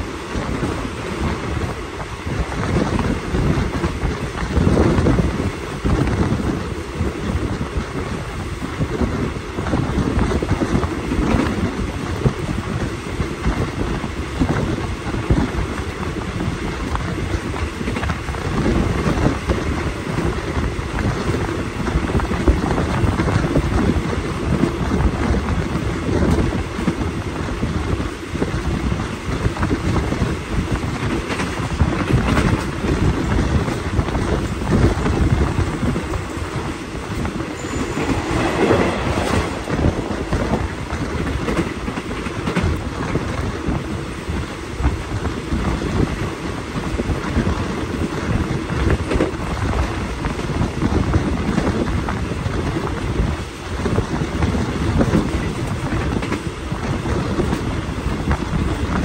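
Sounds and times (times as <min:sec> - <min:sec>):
clickety-clack of rail joints: 0:00.0 - 0:59.0
train wheels rumbling on rails: 0:00.0 - 0:59.0.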